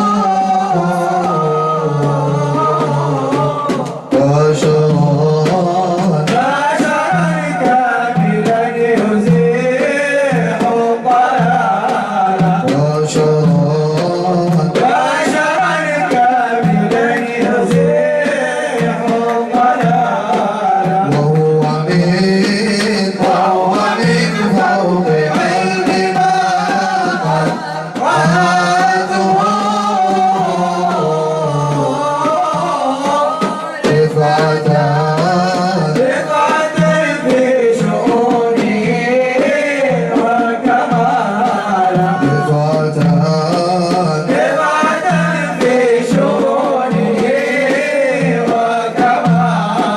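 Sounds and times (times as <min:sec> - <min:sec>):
man singing devotional song: 0:00.0 - 0:49.9.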